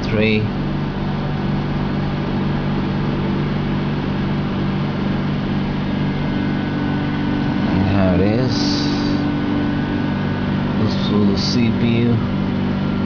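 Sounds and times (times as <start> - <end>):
computer fans humming: 0.0 - 13.0.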